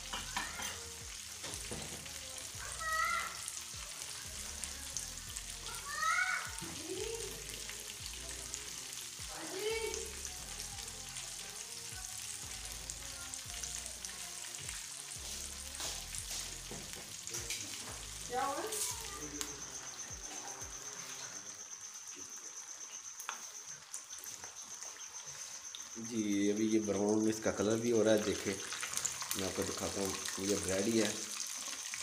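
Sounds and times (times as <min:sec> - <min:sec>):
oil sizzling and crackling: 0:00.0 - 0:32.0.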